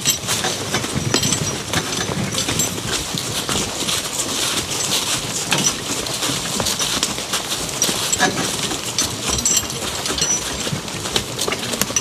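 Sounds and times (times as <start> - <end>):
horse hoofbeats on leaves: 0.0 - 12.0
steady rustle of dragging: 0.0 - 12.0.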